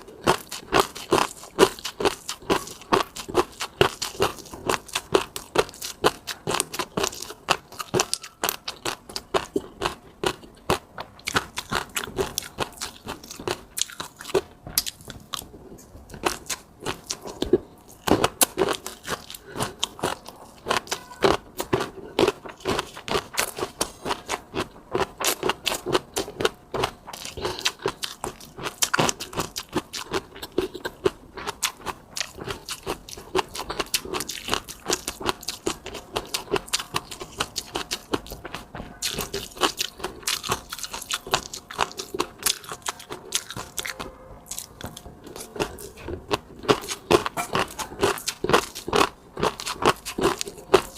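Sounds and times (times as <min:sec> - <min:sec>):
person chewing and biting: 0:00.0 - 0:50.9.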